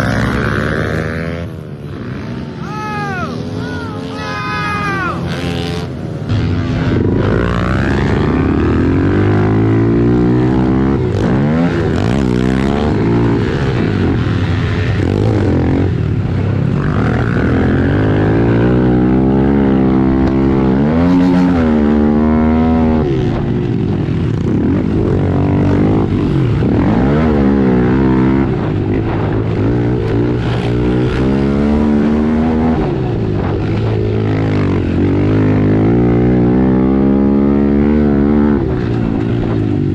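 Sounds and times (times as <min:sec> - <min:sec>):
motorbike engines revving: 0:00.0 - 0:39.9.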